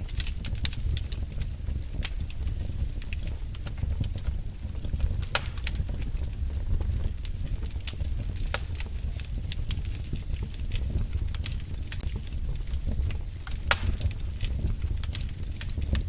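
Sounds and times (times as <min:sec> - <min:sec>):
fire popping: 0:00.0 - 0:16.0
low rumble of flames: 0:00.0 - 0:16.0
wood fire crackling: 0:00.0 - 0:16.0.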